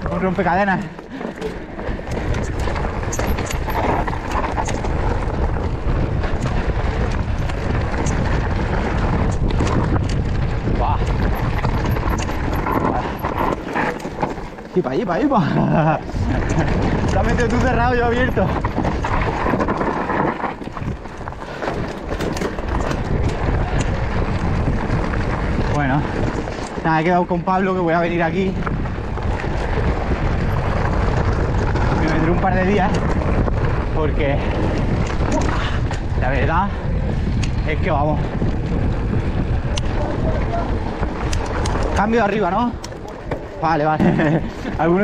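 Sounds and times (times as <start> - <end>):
tyres rolling over stones: 0.0 - 36.4
bike rattling and clicking: 0.0 - 45.0
wind on microphone: 0.0 - 45.0.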